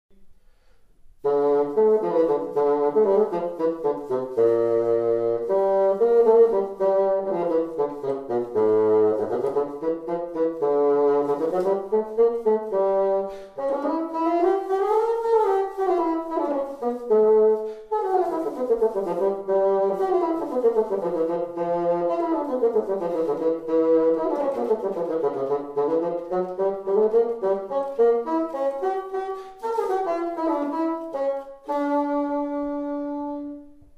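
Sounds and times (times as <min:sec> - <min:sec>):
solo bassoon playing: 0:00.5 - 0:33.9.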